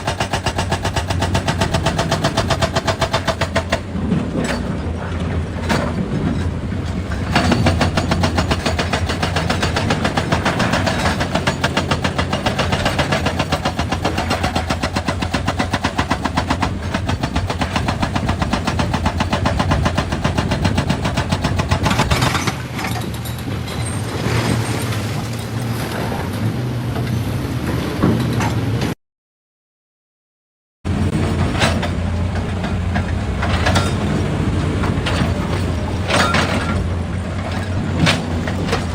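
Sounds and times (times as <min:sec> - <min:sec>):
excavator diesel engine running: 0:00.0 - 0:28.9, 0:30.9 - 0:38.9.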